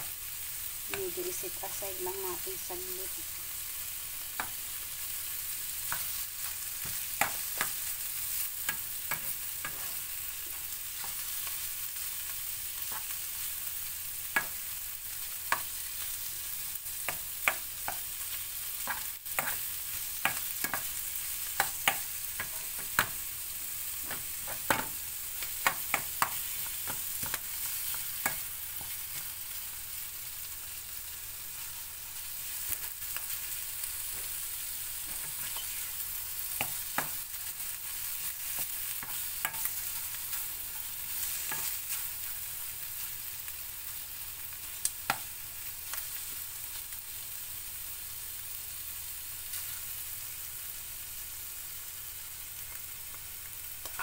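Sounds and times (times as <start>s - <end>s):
food sizzling in frying pan: 0.0s - 54.0s.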